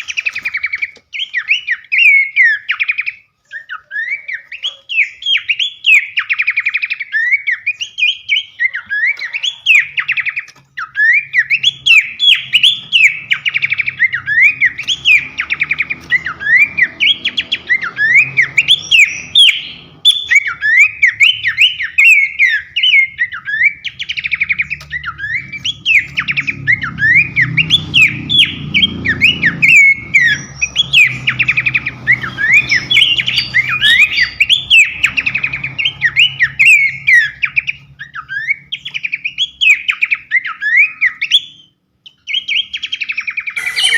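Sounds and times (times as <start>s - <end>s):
songbird singing with trills: 0.0s - 43.9s.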